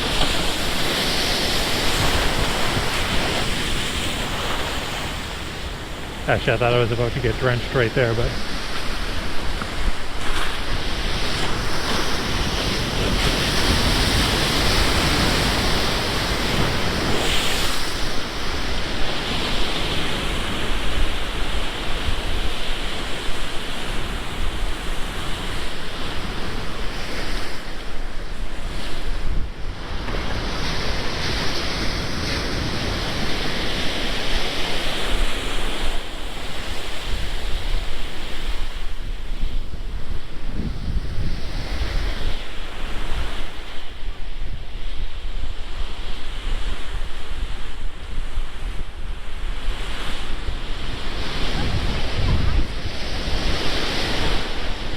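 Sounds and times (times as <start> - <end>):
surf breaking against seawall: 0.0 - 54.9
wind rumbling on microphone: 0.0 - 54.9.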